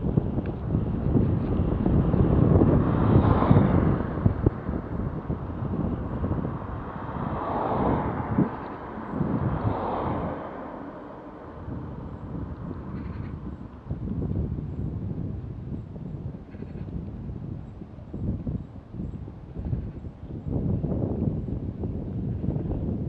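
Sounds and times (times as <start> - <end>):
cars passing: 0.0 - 23.0
wind rumbling on microphone: 0.0 - 23.0.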